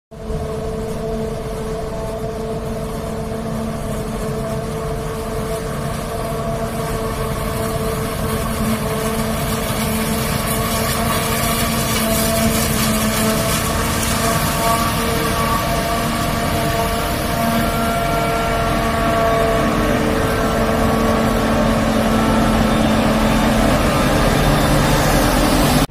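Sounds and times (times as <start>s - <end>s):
harvester engine running under load: 0.1s - 25.9s
whine of chopper drum and blower: 0.2s - 25.9s.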